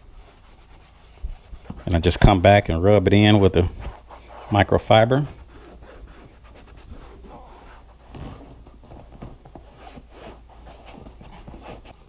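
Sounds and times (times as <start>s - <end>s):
towel rubbing on seat: 0.0s - 12.0s.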